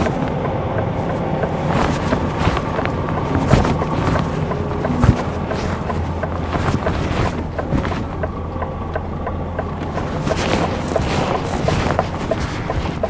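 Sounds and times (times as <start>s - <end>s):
lorry diesel engine humming: 0.0s - 13.0s
knocks and rattles: 1.0s - 13.0s.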